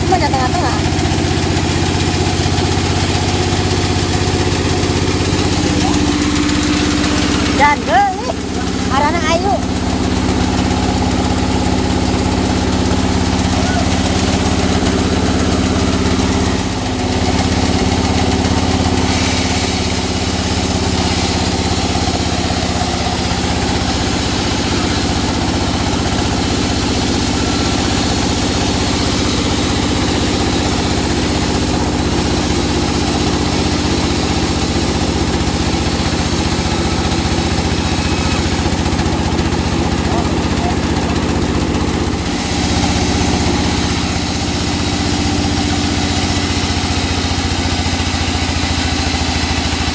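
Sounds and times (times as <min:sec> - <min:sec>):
saw cutting hiss: 0:00.0 - 0:41.0, 0:42.0 - 0:49.9
sawmill engine running: 0:00.0 - 0:49.9.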